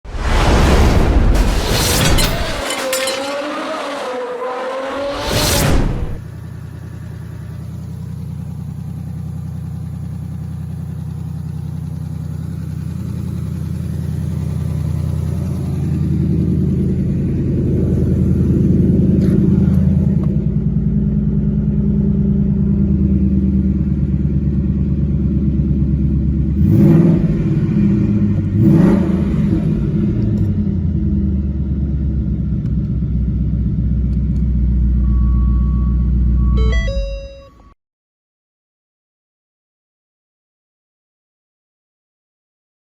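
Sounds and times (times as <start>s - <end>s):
car engine idling and revving: 2.2s - 37.4s.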